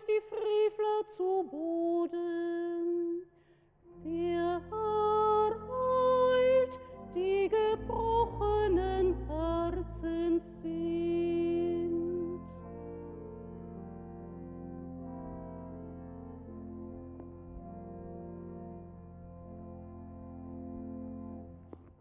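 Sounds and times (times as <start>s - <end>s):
low sustained instrumental accompaniment: 3.9s - 22.0s.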